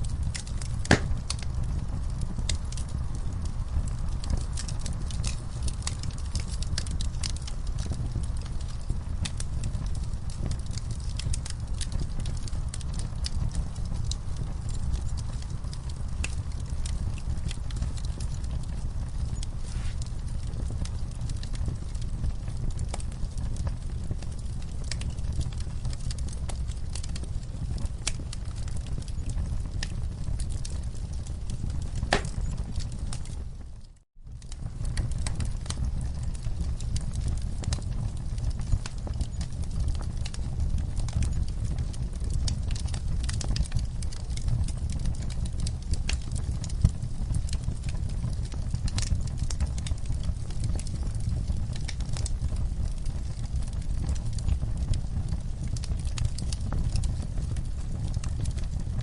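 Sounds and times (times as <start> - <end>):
fire crackling and popping: 0.0 - 59.0
fire rumbling in fireplace: 0.0 - 59.0.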